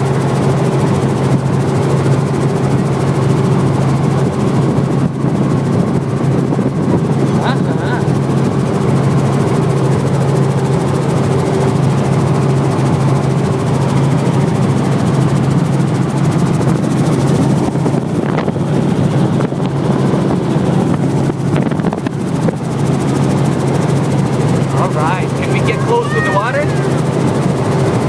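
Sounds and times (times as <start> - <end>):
helicopter rotor chopping: 0.0 - 28.0.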